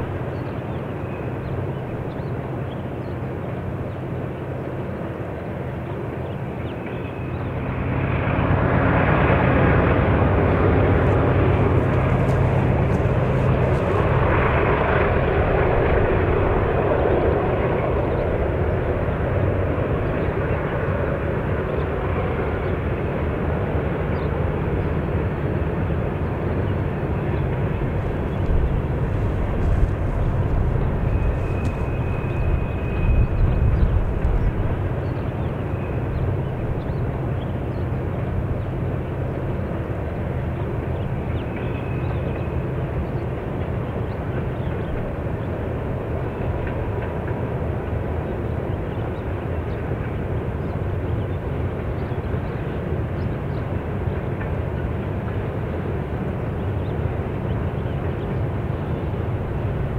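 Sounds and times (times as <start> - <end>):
distant freight train rumble: 0.0 - 59.9.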